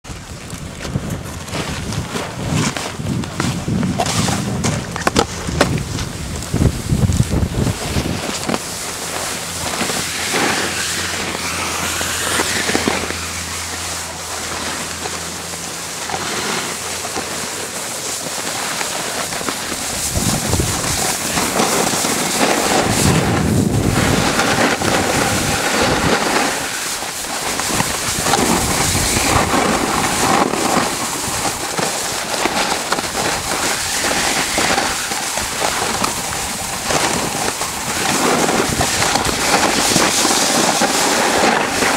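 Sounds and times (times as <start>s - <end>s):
wind on microphone: 0.0s - 16.0s, 19.4s - 41.9s
snowboard scraping icy snow: 0.1s - 41.9s.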